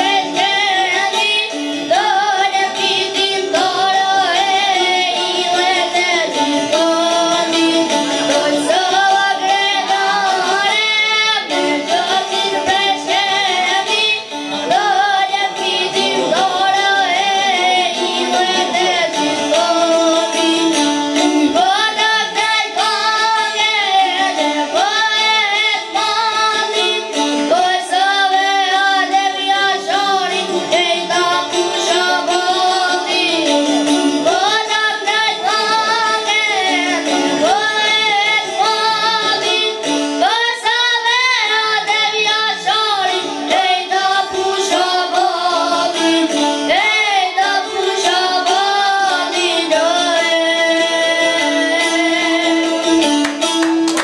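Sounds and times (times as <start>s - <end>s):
boy singing folk song: 0.0s - 54.0s
plucked lute: 0.0s - 54.0s.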